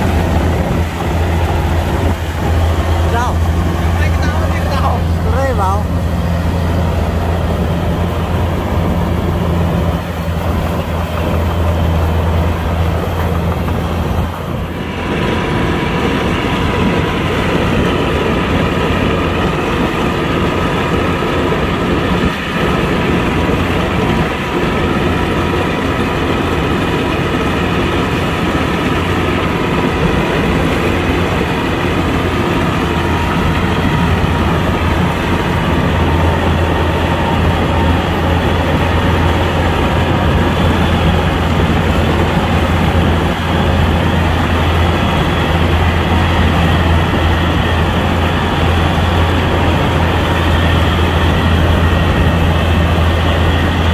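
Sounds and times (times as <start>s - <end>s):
combine harvester engine running: 0.0s - 53.9s.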